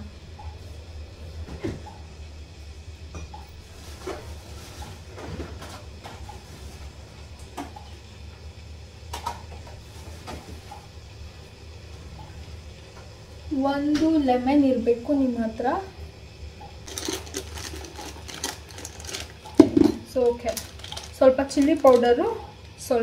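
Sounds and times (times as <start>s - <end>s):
refrigerator hum: 0.0s - 23.0s.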